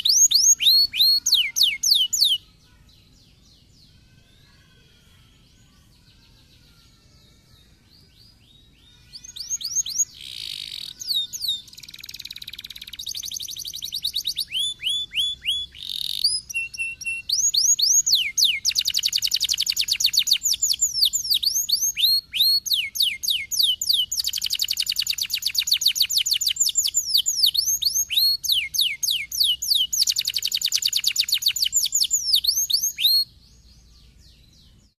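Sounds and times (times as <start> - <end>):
canary singing trills: 0.0 - 4.2, 5.9 - 35.0.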